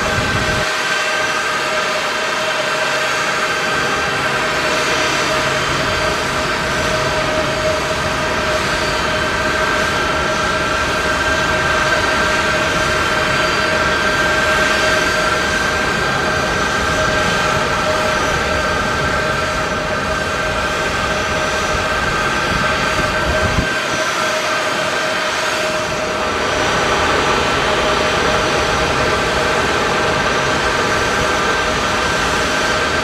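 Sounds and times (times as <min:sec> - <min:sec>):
jet engines rushing and whining: 0:00.0 - 0:33.0.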